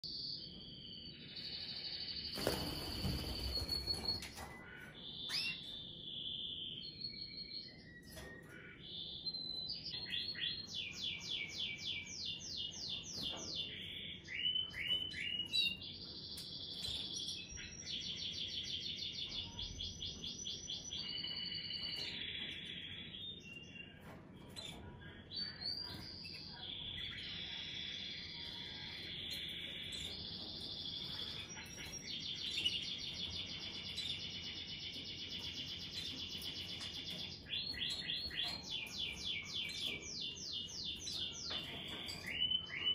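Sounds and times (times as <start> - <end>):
canary trilling and chirping: 0.2 - 42.9.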